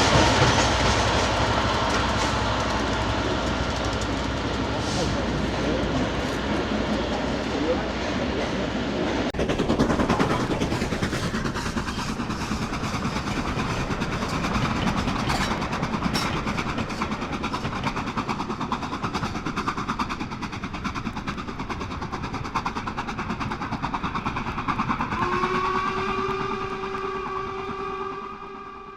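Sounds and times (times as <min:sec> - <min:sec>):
train wheel and rail rumble: 0:00.0 - 0:28.9.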